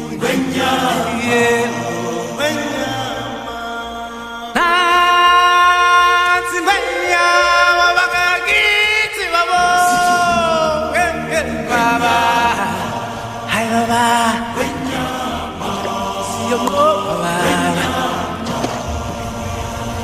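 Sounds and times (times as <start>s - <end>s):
sung vocal chant: 0.0s - 20.0s.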